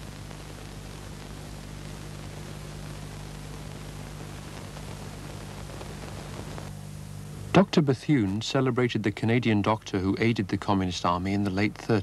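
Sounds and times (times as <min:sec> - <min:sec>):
low electrical hum: 0:00.0 - 0:12.0
steady hiss: 0:00.0 - 0:12.0.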